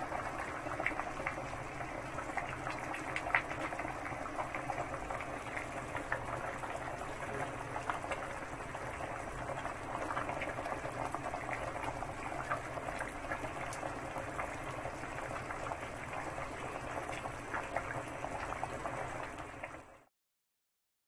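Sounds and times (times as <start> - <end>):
broth boiling in a stockpot: 0.0 - 20.1.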